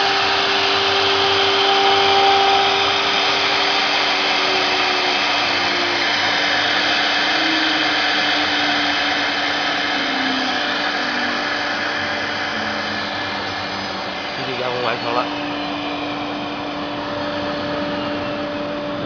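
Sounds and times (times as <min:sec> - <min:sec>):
dust collector whirr: 0:00.0 - 0:19.0
router spindle machining: 0:00.0 - 0:19.0.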